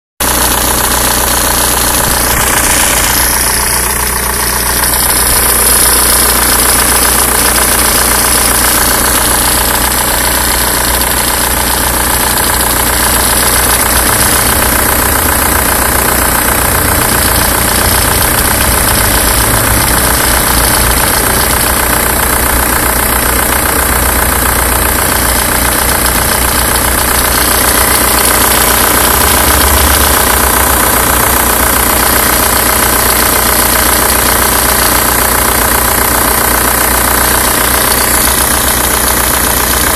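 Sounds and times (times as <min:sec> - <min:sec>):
alternator belt noise: 0:00.2 - 0:39.9
car engine idling: 0:00.2 - 0:39.9.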